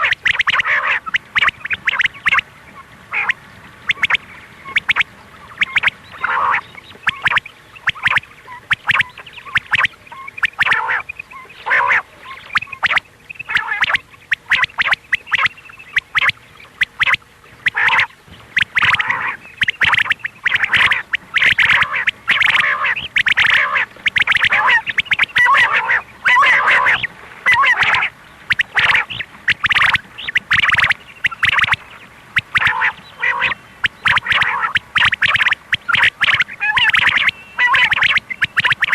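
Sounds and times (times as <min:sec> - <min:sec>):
quail calls: 0:00.0 - 0:38.9.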